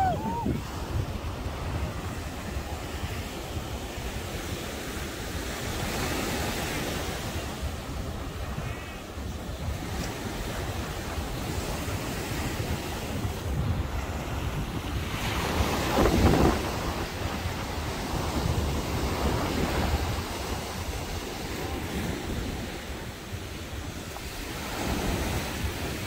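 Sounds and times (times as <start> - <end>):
ocean surf washing: 0.0 - 26.0
wind buffeting microphone: 0.0 - 26.0.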